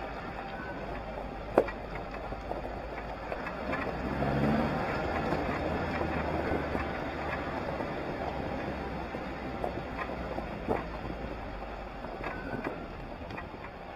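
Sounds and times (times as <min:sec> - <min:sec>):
tyres rumbling on gravel: 0:00.0 - 0:13.9
vehicle engine running: 0:00.0 - 0:13.9.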